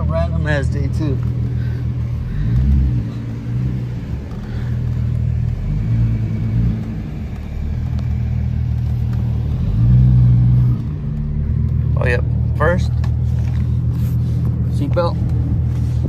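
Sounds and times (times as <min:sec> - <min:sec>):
car engine deep exhaust rumble: 0:00.0 - 0:16.0.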